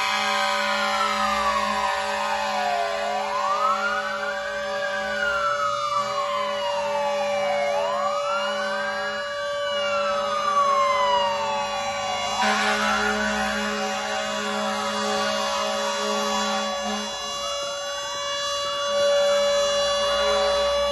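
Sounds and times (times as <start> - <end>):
fire truck siren wailing: 0.0 - 20.9
second siren sweeping higher: 0.0 - 20.9.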